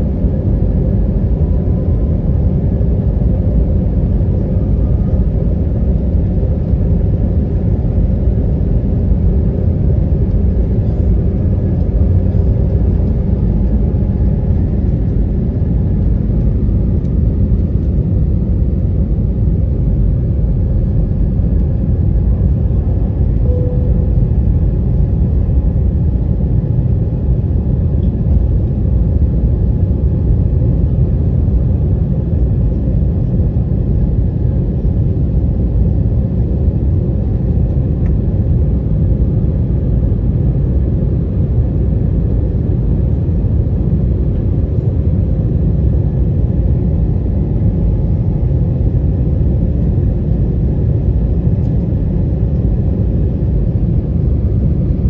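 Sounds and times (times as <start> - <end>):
faint steady hums: 0.0 - 55.0
jet engines rumbling: 0.0 - 55.0.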